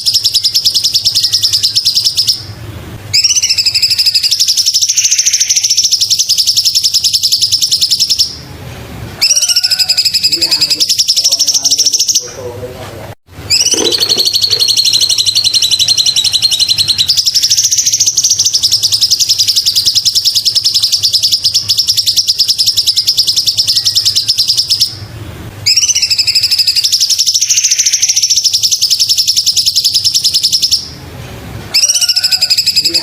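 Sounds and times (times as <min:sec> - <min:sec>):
bird singing high trill: 0:00.0 - 0:08.4, 0:09.2 - 0:12.4, 0:13.5 - 0:31.0, 0:31.7 - 0:33.0.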